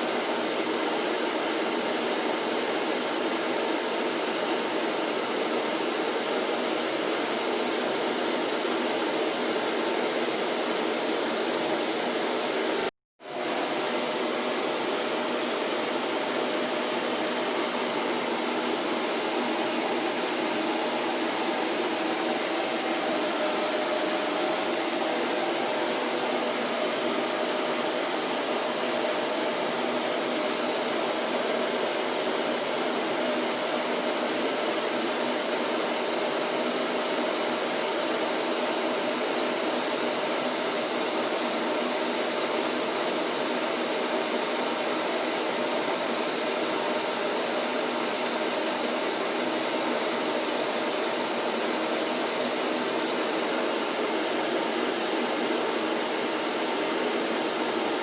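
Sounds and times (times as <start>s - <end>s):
vacuum cleaner motor running: 4.1s - 58.0s.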